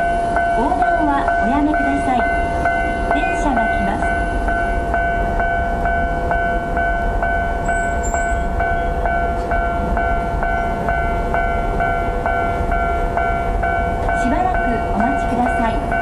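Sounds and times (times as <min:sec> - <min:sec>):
level crossing alarm bell: 0:00.0 - 0:16.0.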